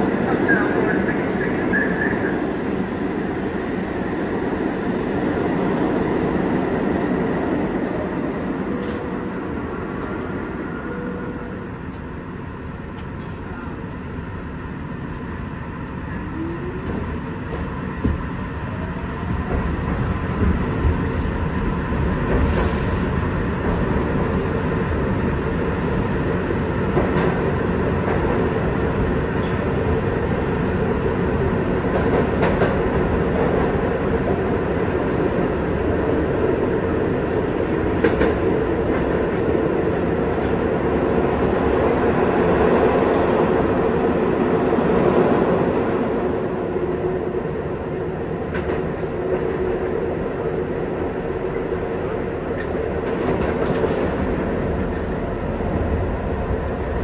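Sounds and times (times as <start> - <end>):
subway train rumbling in tunnel: 0.0 - 57.0.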